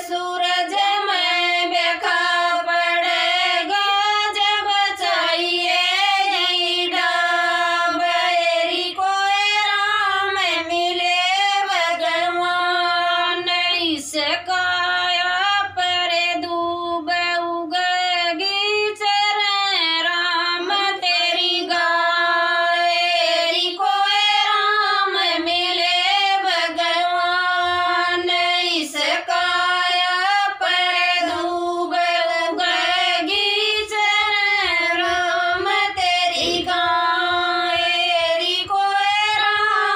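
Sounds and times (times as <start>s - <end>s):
women singing in unison: 0.0s - 39.9s.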